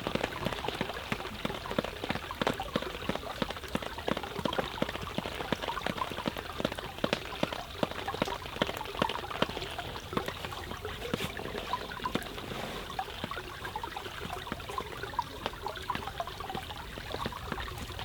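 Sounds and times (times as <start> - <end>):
rain drops tapping: 0.0 - 18.0
running water: 0.0 - 18.0.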